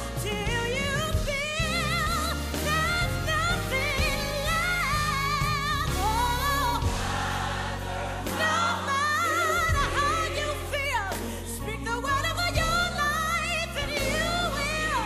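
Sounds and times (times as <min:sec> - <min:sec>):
choir and band: 0:00.0 - 0:15.0
singer with wide vibrato: 0:00.0 - 0:15.0.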